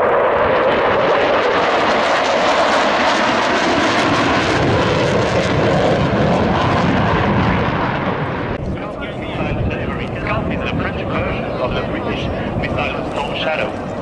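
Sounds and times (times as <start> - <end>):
jets flying past: 0.0 - 14.0.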